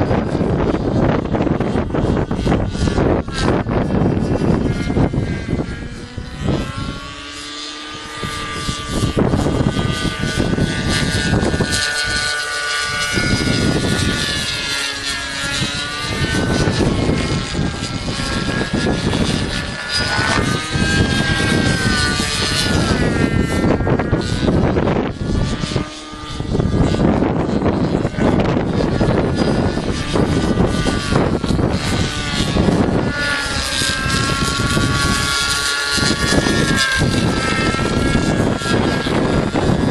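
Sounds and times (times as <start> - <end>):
model helicopter engine buzzing: 0.0 - 39.9
wind rumbling on microphone: 0.0 - 39.9.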